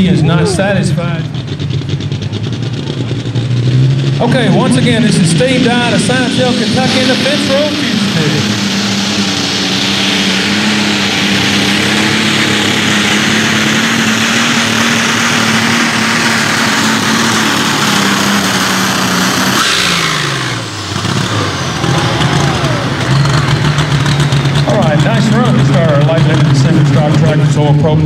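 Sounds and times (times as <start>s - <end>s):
tractor engine at full throttle: 0.0s - 28.0s.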